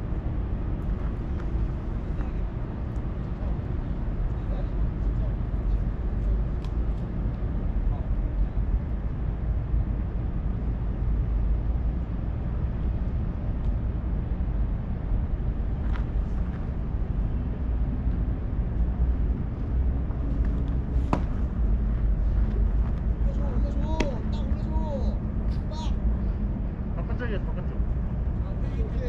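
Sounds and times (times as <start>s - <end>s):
low rumbling wind noise: 0.0s - 29.0s.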